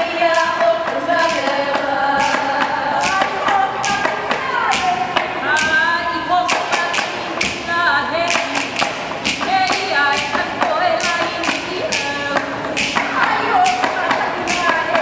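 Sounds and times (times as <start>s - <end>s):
voices chanting a song: 0.0s - 15.0s
gourd drum strikes: 0.2s - 15.0s.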